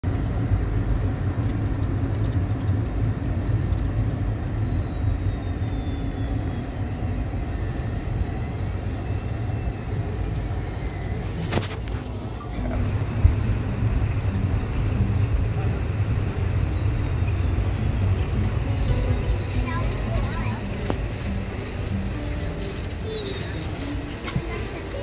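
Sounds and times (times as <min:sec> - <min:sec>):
van road and engine rumble: 0:00.0 - 0:25.0
faint high whine: 0:00.1 - 0:25.0.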